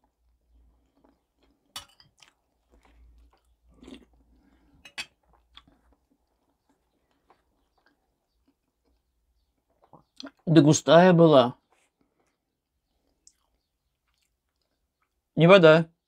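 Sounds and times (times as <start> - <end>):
person chewing: 0.0 - 10.4, 11.6 - 15.2.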